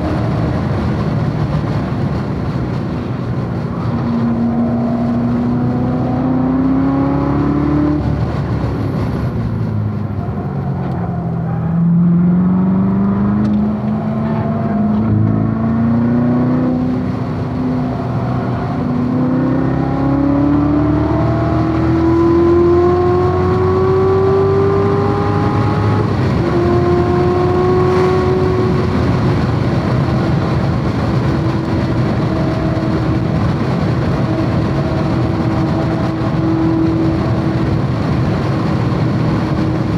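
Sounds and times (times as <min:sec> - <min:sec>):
race car engine with gear changes: 0:00.0 - 0:39.9.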